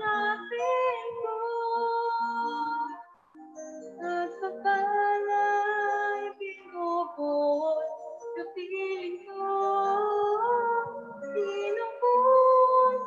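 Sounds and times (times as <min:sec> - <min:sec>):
woman singing slow song: 0:00.0 - 0:03.1, 0:04.0 - 0:13.0
musical accompaniment: 0:00.0 - 0:13.0.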